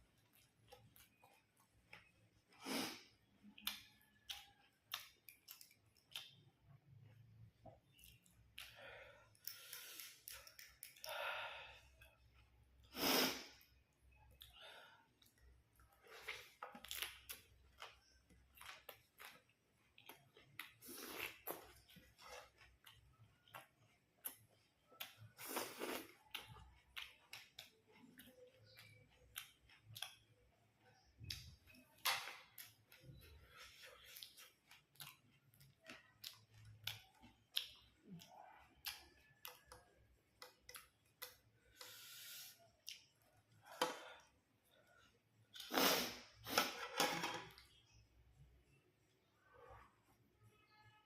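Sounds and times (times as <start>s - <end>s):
person chewing: 0.0s - 11.2s, 11.8s - 46.8s.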